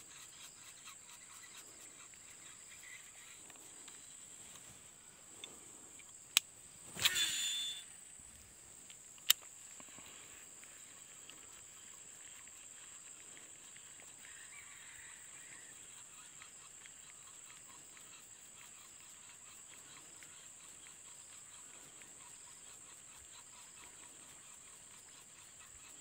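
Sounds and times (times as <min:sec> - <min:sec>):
crickets buzzing: 0:00.0 - 0:26.0.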